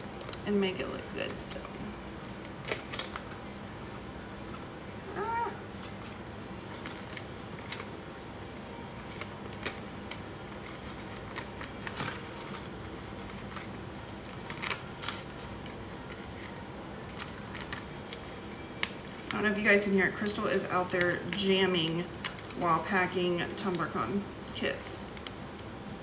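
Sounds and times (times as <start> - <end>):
steady low hum: 0.0 - 26.0
plastic sheet clicking and crinkling: 1.1 - 4.6, 5.7 - 24.0.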